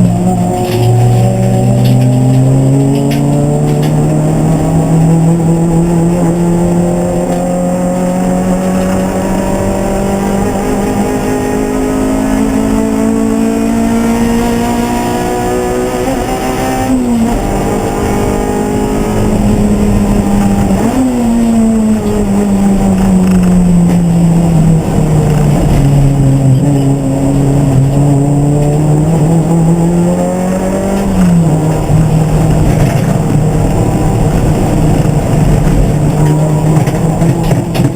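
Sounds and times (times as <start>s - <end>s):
race car engine revving: 0.0s - 37.9s.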